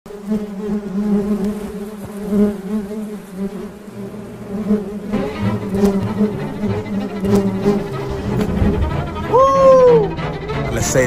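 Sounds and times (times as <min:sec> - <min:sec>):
honeybees buzzing: 0:00.1 - 0:11.0.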